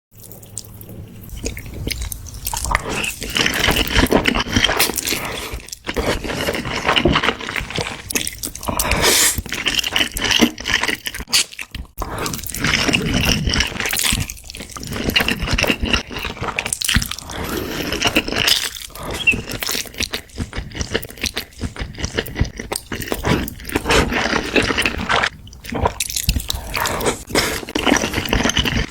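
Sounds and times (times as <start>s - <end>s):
crisp crunching and chewing: 0.2s - 28.9s.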